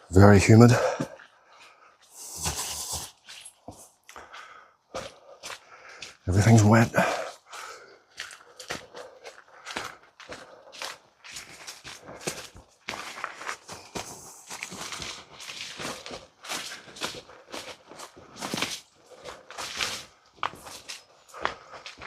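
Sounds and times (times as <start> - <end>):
footsteps on wet trail: 0.4 - 22.0.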